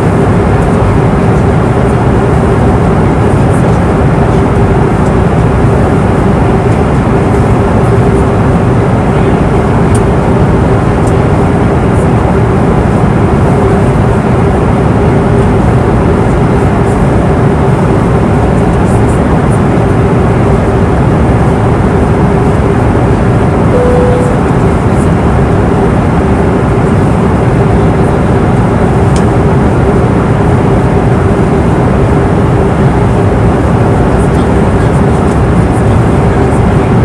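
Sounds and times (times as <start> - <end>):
airliner cabin engine rush: 0.0 - 37.0
constant hum: 0.0 - 37.0.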